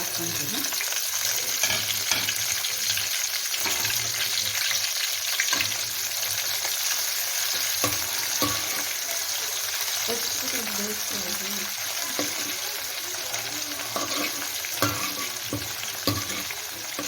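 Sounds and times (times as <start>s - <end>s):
onions sizzling in a pan: 0.0s - 17.0s.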